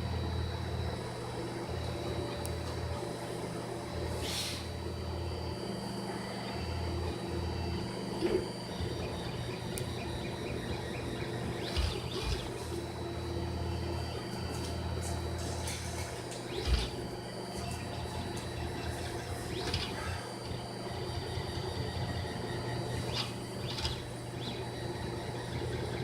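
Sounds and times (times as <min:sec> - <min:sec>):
fan whine: 0:00.0 - 0:26.0
stepper motors humming: 0:00.0 - 0:26.0.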